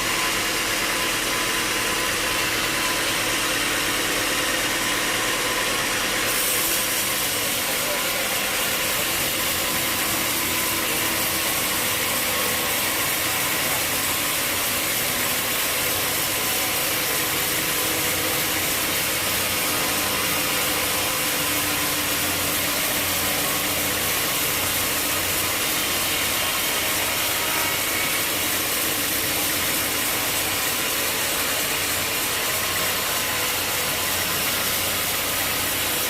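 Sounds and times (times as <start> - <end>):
saw cutting through log: 0.0 - 36.0
sawmill machinery running: 0.0 - 36.0.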